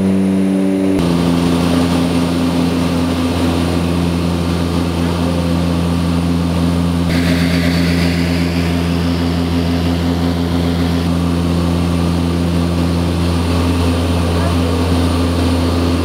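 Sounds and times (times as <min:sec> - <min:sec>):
turboprop engines droning: 0:00.0 - 0:16.0.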